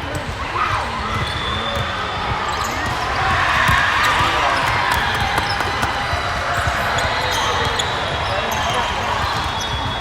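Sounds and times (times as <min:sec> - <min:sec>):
many voices talking: 0:00.0 - 0:10.0
volleyballs bouncing on court: 0:00.0 - 0:10.0.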